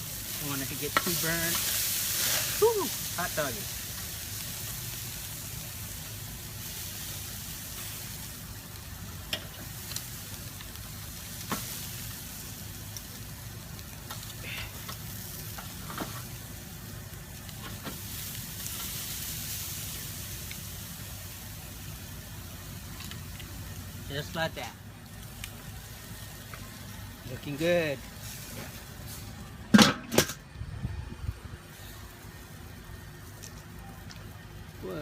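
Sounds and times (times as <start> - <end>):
ribs sizzling on a grill: 0.0 - 35.0.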